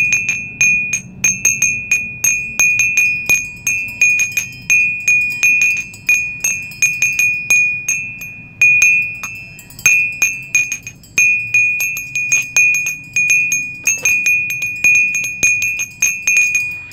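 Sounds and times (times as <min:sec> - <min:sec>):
high metal chime tones: 0:00.0 - 0:16.9.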